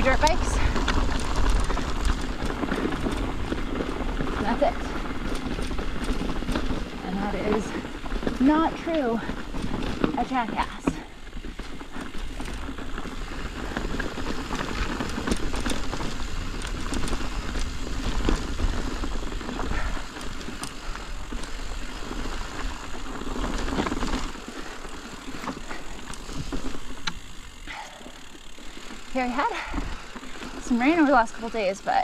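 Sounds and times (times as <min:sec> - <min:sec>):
bike clicks and rattles: 0:00.0 - 0:32.0
bike tyres crunching over rocks: 0:00.0 - 0:32.0.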